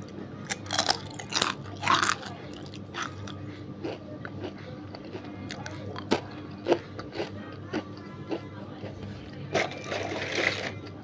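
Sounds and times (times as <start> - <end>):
chips crunching being chewed: 0.4 - 10.8.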